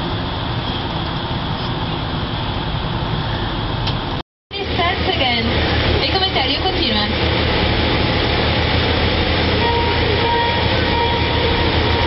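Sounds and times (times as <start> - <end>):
boat engine droning: 0.0 - 12.0
rushing wind and water: 0.0 - 12.0.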